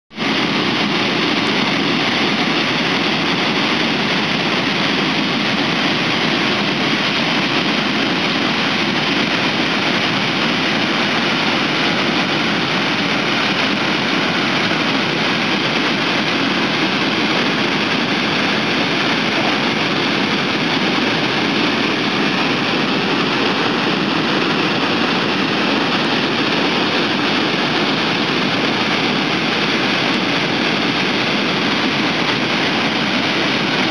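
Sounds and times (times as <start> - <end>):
waterfall and rapids rushing: 0.2 - 33.9.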